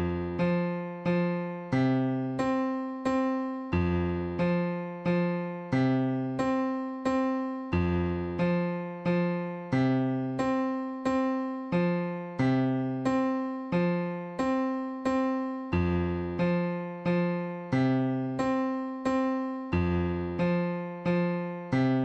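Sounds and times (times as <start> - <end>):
piano playing chords: 0.0 - 22.0.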